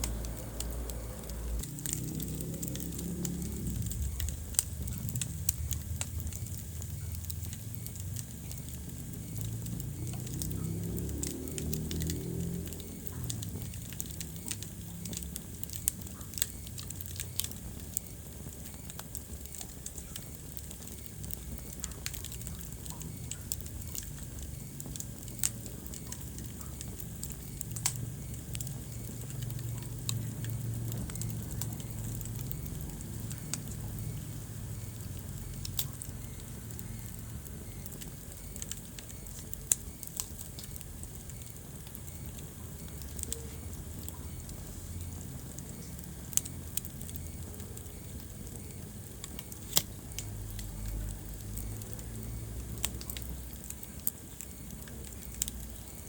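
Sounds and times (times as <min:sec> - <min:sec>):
low steady rumble: 0:00.0 - 0:56.0
wood fire crackling and popping: 0:00.0 - 0:56.0.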